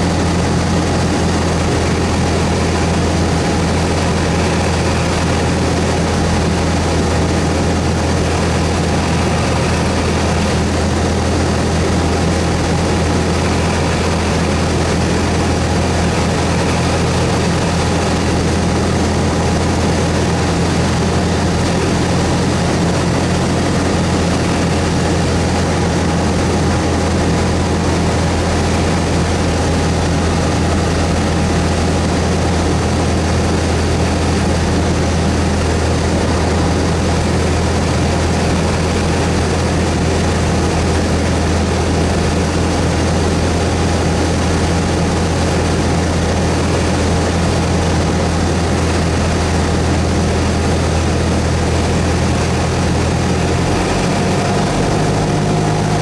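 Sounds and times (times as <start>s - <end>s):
propeller plane engine droning: 0.0s - 56.0s.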